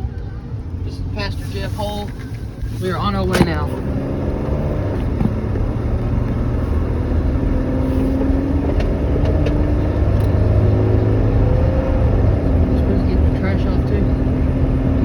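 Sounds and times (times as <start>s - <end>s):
road rumble: 0.0s - 15.0s
vehicle engine: 0.0s - 15.0s.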